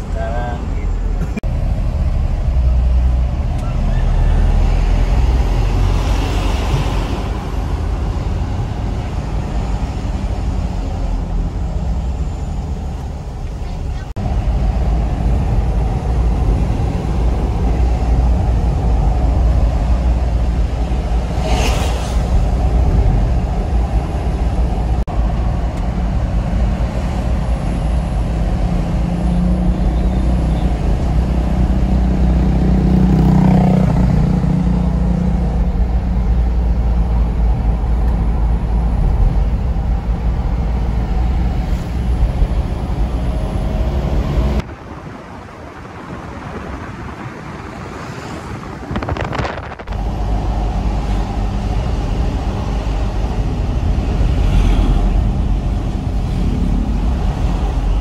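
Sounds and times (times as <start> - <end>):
minibus engine and road noise: 0.0 - 58.0.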